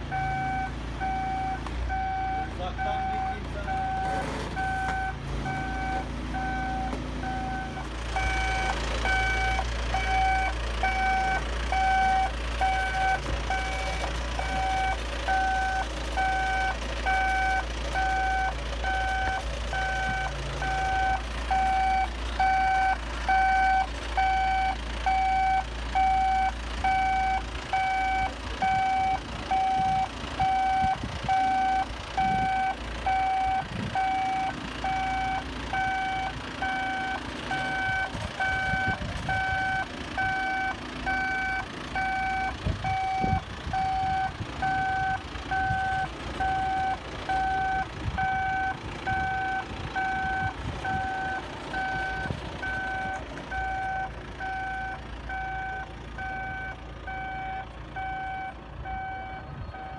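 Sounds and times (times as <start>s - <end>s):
diesel engine rumble: 0.0s - 59.9s
reversing alarm beeping: 0.1s - 59.9s.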